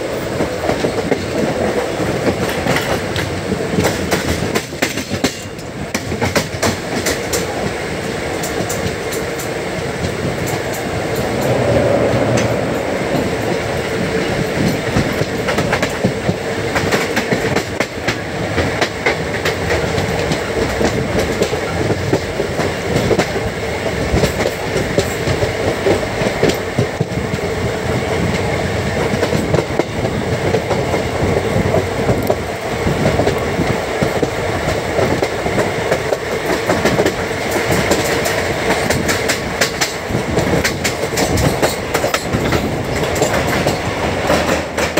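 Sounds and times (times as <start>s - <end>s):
train rumble and hiss: 0.0s - 44.9s.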